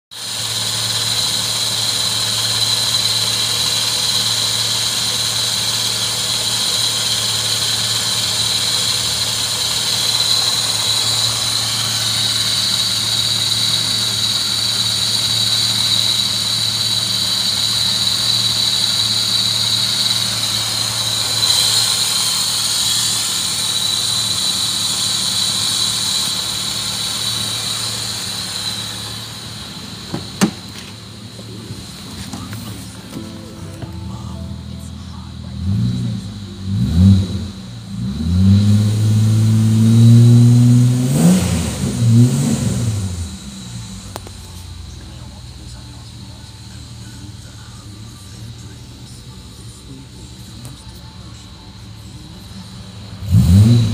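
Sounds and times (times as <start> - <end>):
car engine idling: 0.0 - 53.9
high-pitched whine: 0.2 - 53.9.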